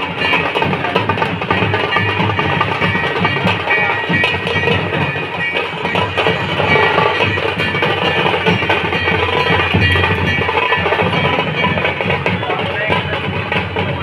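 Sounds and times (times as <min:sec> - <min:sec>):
drums beating: 0:00.0 - 0:14.0.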